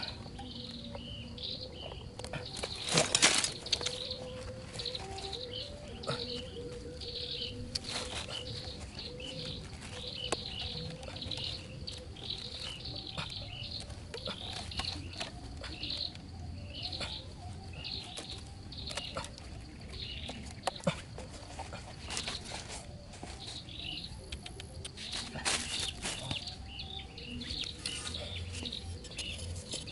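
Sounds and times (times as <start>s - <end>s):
birds chirping: 0.0s - 29.9s.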